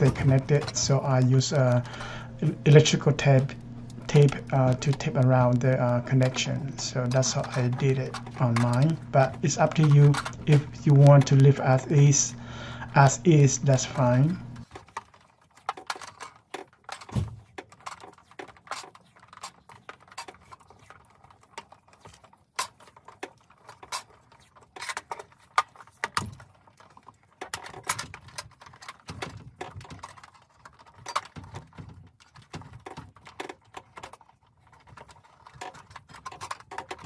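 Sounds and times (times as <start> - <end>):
hands clicking and tapping wiring: 0.0 - 37.0.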